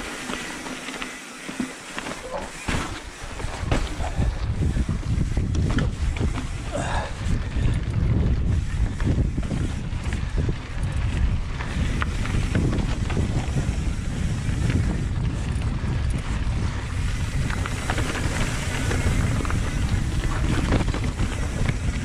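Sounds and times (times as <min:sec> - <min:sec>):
bike clicks and rattles: 0:00.0 - 0:22.0
bike tyres rumbling on dirt: 0:00.0 - 0:22.0
wind noise on microphone: 0:02.8 - 0:22.0.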